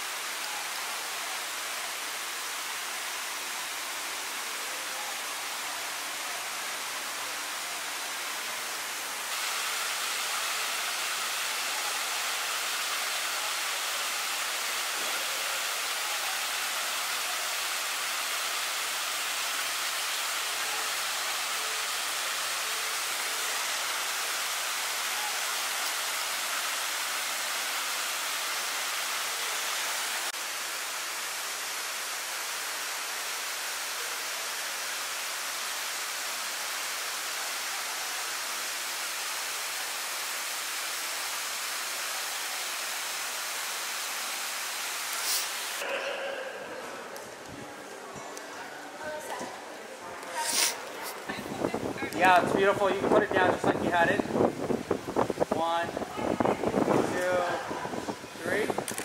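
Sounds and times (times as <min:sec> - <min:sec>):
water rushing from waterfall: 0:00.0 - 0:46.8, 0:50.4 - 0:59.0.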